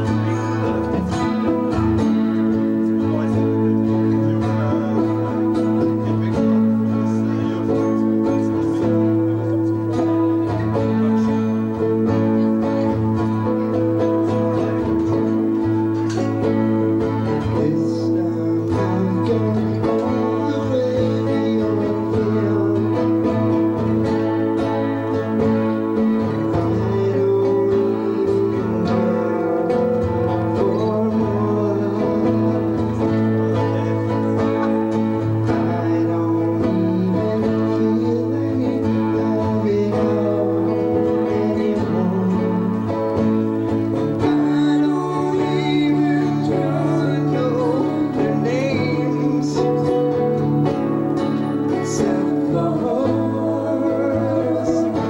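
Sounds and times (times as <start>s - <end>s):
acoustic guitars strummed: 0.0s - 55.0s
person singing into a microphone: 0.0s - 55.0s.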